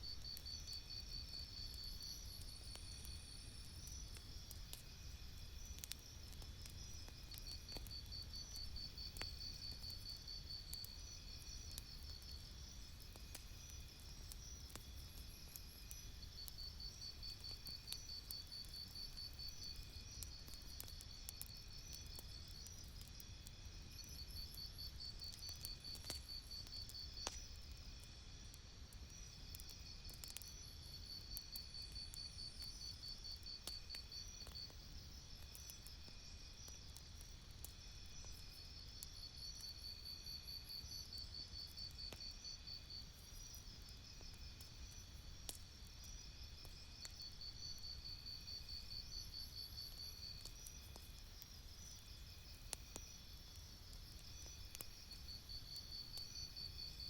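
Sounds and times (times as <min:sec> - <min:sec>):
crickets chirping: 0:00.0 - 0:57.0
campfire crackling and popping: 0:00.1 - 0:57.0.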